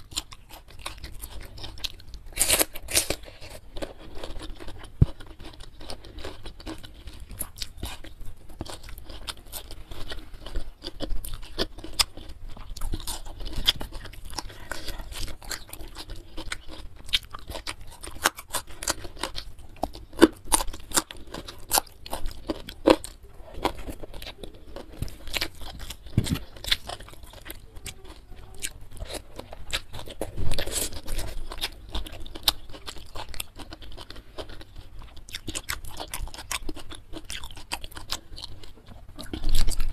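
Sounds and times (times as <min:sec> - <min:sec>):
crisp crunches: 0:00.0 - 0:39.9
wet chewing: 0:00.0 - 0:39.9.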